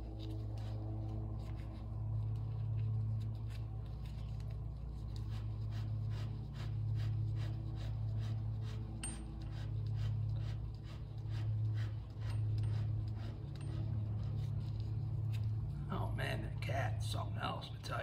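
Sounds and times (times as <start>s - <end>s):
pulsing low hum: 0.0s - 18.0s.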